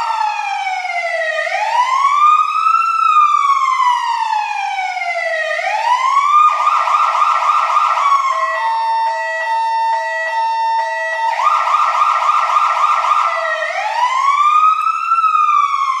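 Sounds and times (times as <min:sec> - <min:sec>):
fire truck siren: 0:00.0 - 0:16.0.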